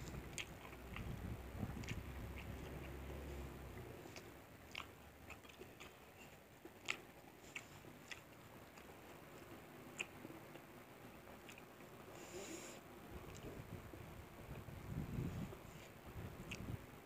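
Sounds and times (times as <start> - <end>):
person chewing food: 0.0 - 10.7, 11.3 - 12.6, 13.2 - 13.6, 15.4 - 16.7.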